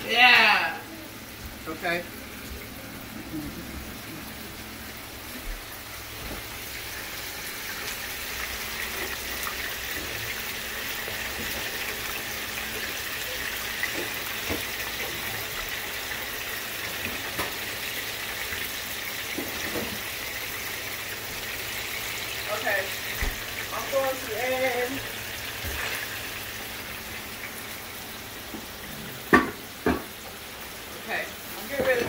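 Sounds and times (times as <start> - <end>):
deep-frying sizzle: 0.0 - 32.0.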